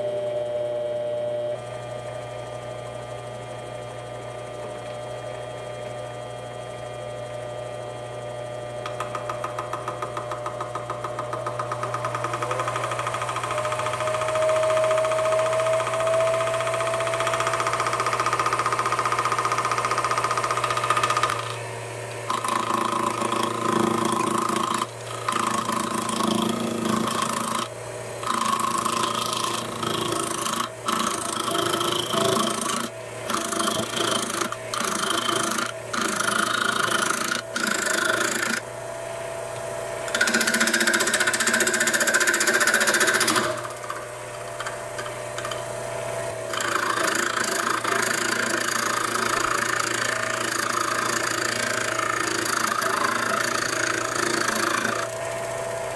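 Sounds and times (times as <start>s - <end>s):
lathe motor whine: 0.0s - 55.9s
lathe tool cutting wood: 8.8s - 38.8s, 40.0s - 55.9s.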